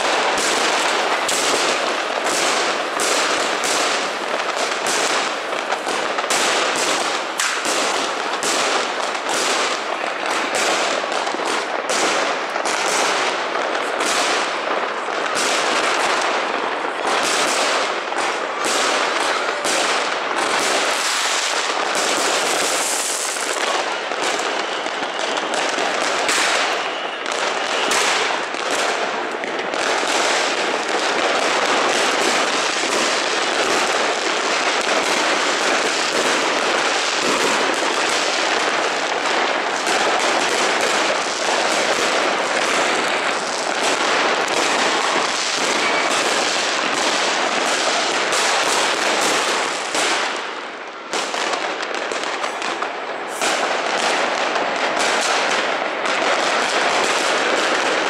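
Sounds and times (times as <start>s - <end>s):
fireworks and firecrackers banging: 0.0s - 58.0s.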